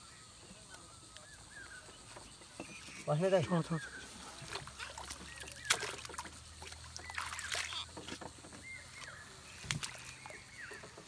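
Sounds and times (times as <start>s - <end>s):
water splashing and sloshing: 1.7s - 11.0s.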